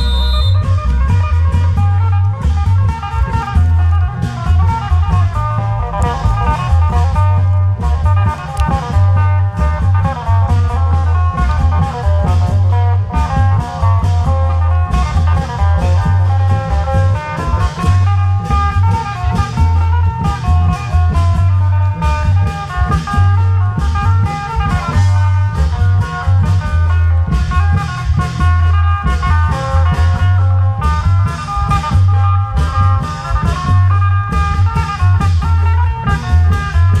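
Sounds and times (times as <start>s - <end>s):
fast melody line: 0.0s - 37.0s
heavy low drum beat: 0.0s - 37.0s.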